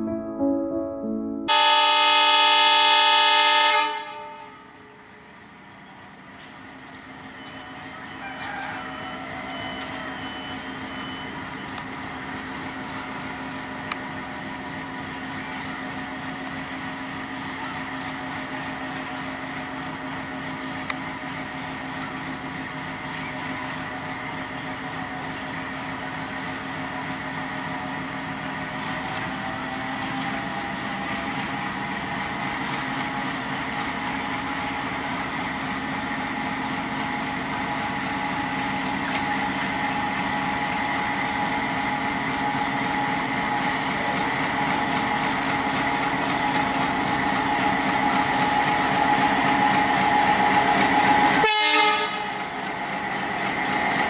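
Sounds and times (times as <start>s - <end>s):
diesel locomotive engine humming: 0.0s - 54.0s.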